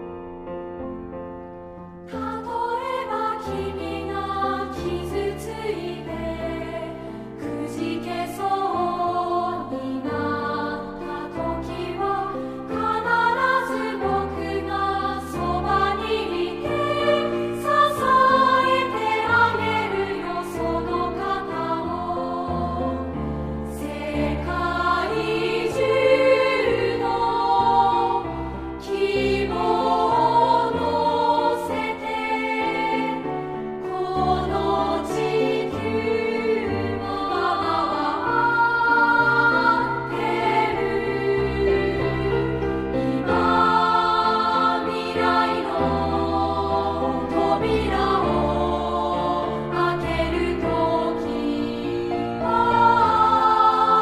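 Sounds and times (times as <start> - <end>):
choir singing held chords: 2.0 - 54.0.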